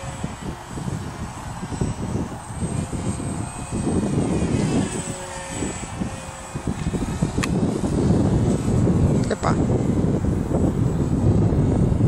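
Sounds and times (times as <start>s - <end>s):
model airplane motor whine: 0.0s - 12.0s
wind buffeting microphone: 0.0s - 12.0s.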